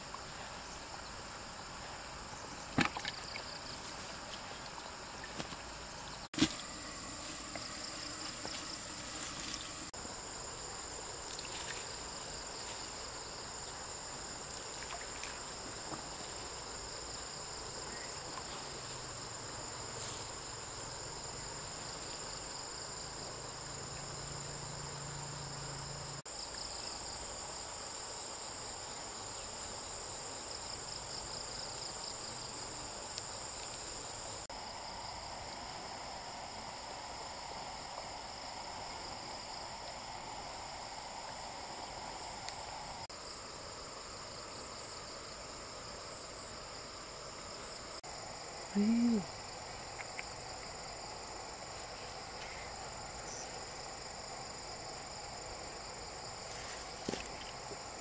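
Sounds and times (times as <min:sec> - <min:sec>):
constant hiss: 0:00.0 - 0:58.0
high-pitched insect chorus: 0:00.0 - 0:58.0.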